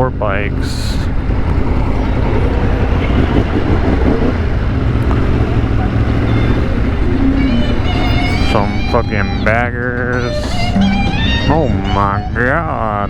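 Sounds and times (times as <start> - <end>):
noise over microphone: 0.0 - 13.0
motorcycle engine cruising: 1.0 - 12.2.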